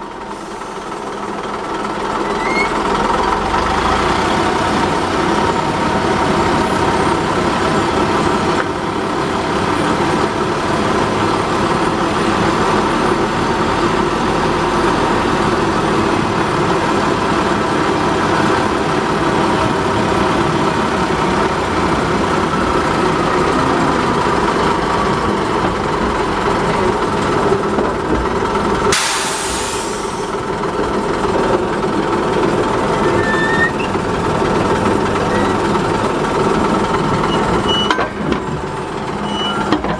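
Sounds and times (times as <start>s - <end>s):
diesel locomotive engine running: 0.0s - 39.9s
wheels rumbling on rails: 0.0s - 39.9s.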